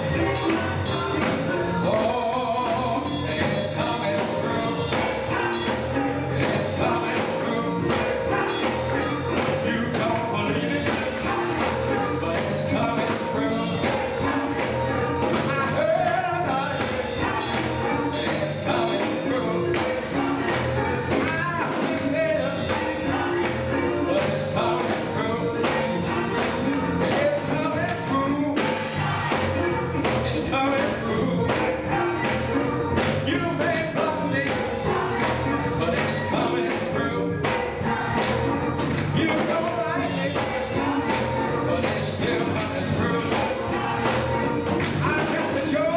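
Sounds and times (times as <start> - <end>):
live gospel music: 0.0 - 45.9.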